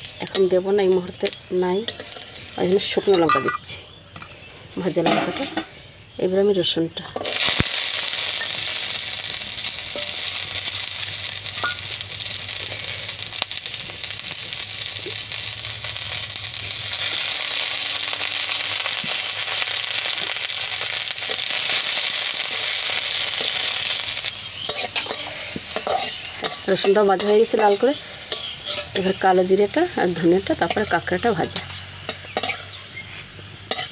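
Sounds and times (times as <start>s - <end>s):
garlic sizzling in hot oil: 0.0s - 3.4s, 7.2s - 33.9s.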